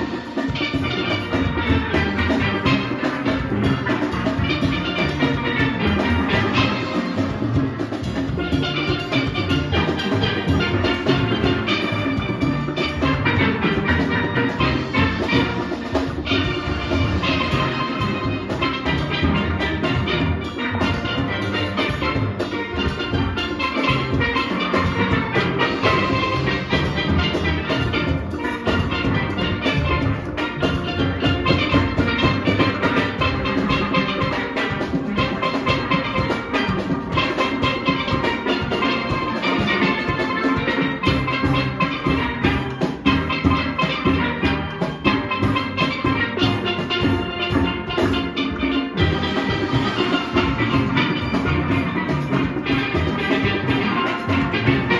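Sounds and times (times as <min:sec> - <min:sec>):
percussion and drums beat: 0:00.0 - 0:54.9
steel orchestra playing: 0:00.0 - 0:54.9.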